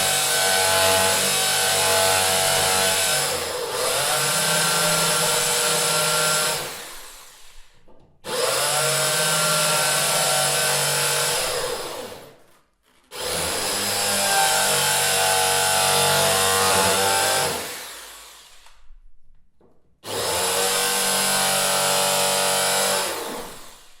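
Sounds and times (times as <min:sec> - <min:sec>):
electric drill whirring: 0:00.0 - 0:12.3, 0:13.1 - 0:18.9, 0:20.1 - 0:24.0.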